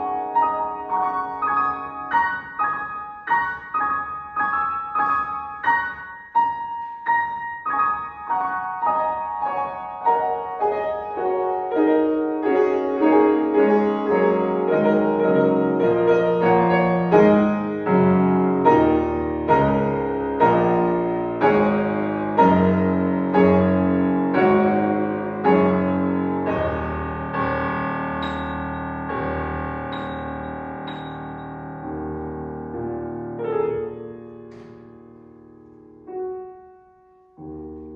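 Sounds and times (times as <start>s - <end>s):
slow solo piano: 0.0s - 37.9s.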